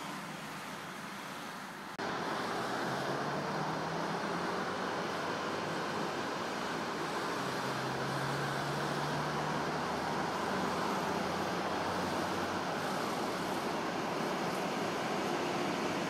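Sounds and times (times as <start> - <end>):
road traffic rumble: 0.0 - 16.0
freight train approaching: 2.0 - 16.0.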